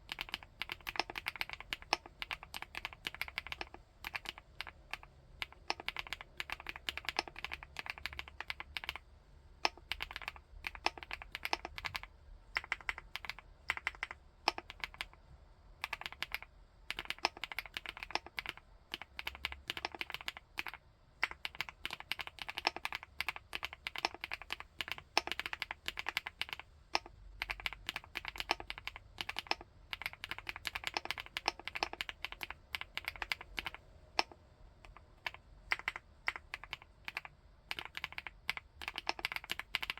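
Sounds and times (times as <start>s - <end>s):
mechanical keyboard typing: 0.0s - 9.0s, 9.6s - 15.2s, 15.8s - 39.9s.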